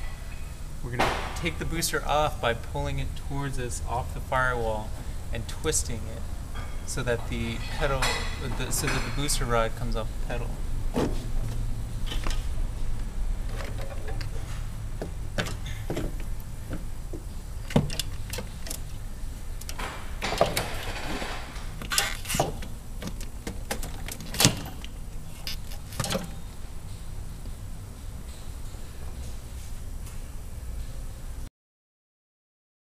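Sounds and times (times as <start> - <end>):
steady low hum: 0.0 - 31.5.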